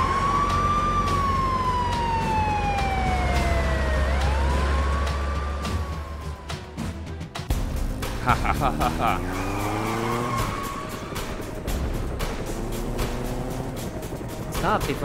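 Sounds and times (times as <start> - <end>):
low engine sound: 0.0 - 6.6, 7.6 - 15.0
police siren wailing: 0.0 - 6.9, 9.0 - 15.0.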